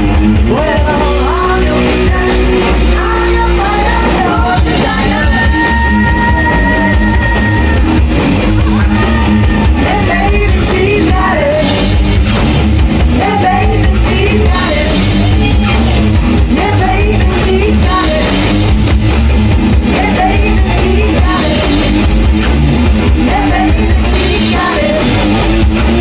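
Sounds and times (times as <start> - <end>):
live rock band playing: 0.0 - 26.0
person singing: 0.4 - 12.0, 13.1 - 18.5, 19.8 - 22.0, 23.2 - 25.4.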